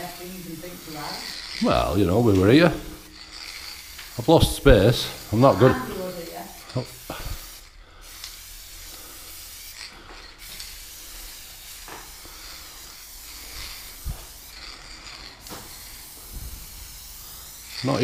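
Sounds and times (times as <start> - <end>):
spray paint can hissing: 0.0 - 18.0.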